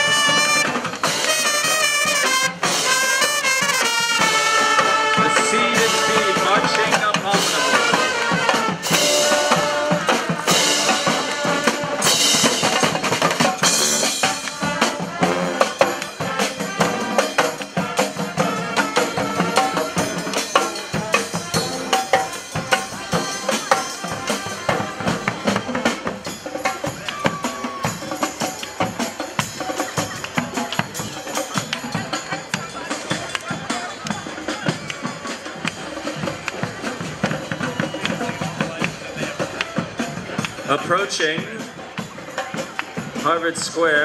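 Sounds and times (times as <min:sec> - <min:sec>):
marching band horns: 0:00.0 - 0:43.7
driving drum beat: 0:00.0 - 0:44.0.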